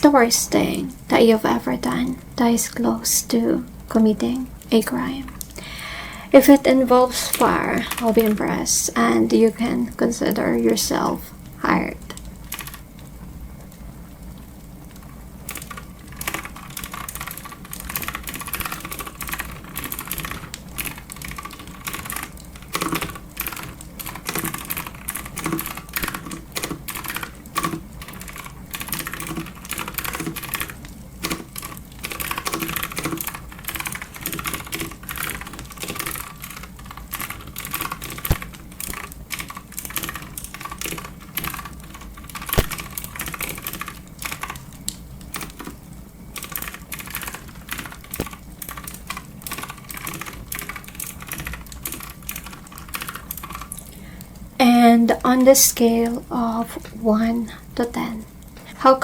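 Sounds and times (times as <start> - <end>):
clicky keyboard typing: 4.3 - 13.8, 14.9 - 54.3.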